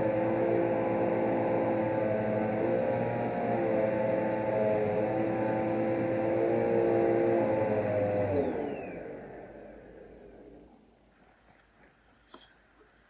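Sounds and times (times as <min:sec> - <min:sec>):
vacuum cleaner motor winding down: 0:00.0 - 0:10.8.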